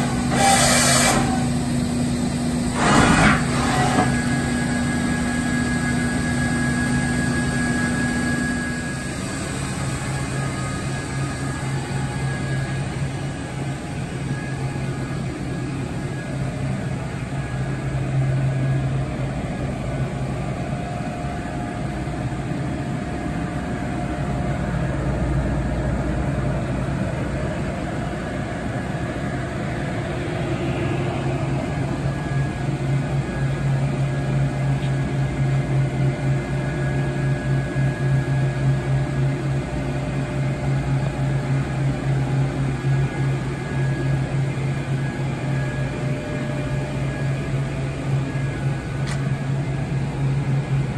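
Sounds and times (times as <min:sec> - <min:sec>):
faint steady whines: 0:00.0 - 0:50.9
machine electrical hum: 0:00.0 - 0:50.9.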